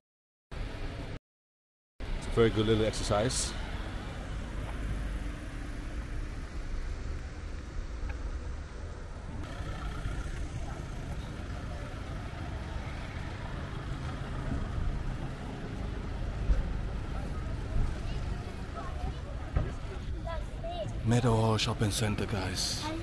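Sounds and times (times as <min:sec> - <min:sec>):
car engines running slowly: 0:02.0 - 0:23.0.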